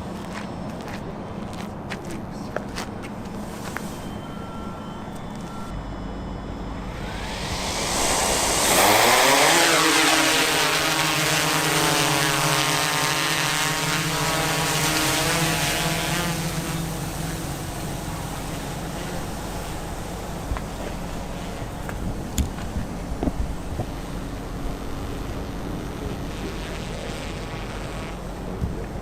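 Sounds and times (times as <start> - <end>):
aircraft flying past: 5.5 - 29.0.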